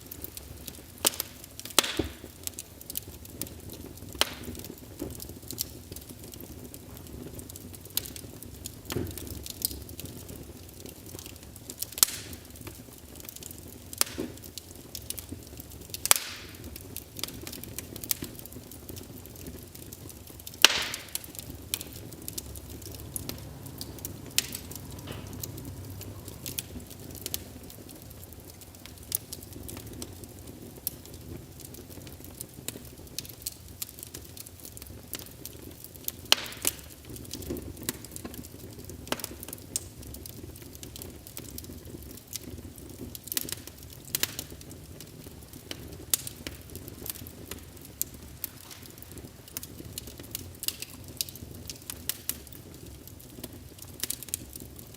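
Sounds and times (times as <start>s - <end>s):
low rumble of flames: 0.0s - 54.9s
wood fire crackling and popping: 0.0s - 54.9s.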